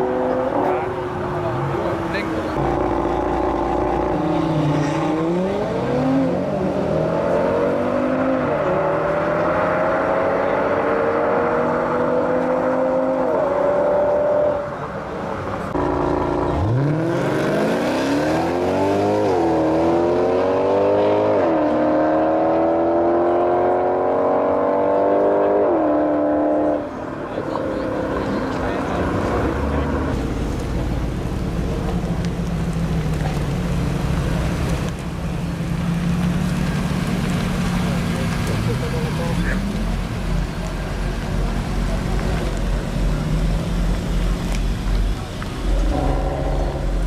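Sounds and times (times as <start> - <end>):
car engine accelerating: 0.0 - 14.6, 15.6 - 47.0.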